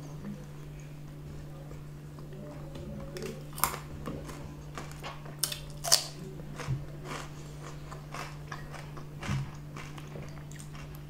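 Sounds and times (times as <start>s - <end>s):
chewing french fries: 0.0s - 11.0s
low hum: 0.0s - 11.0s.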